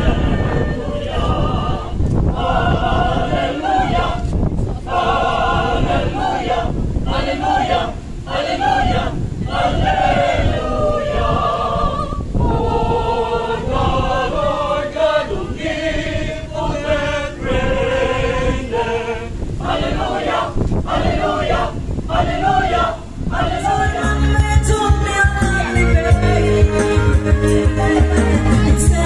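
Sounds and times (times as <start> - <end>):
choir singing held notes: 0.0 - 29.0.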